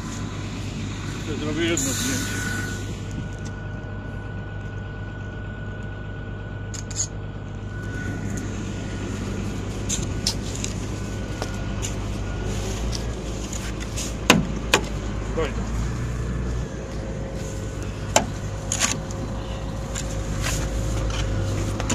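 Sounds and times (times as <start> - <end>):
heavy vehicle engine running: 0.0 - 21.9.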